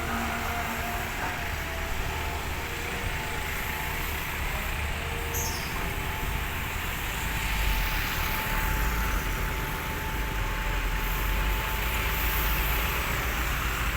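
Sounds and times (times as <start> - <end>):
diesel engine rumbling: 0.0 - 13.9.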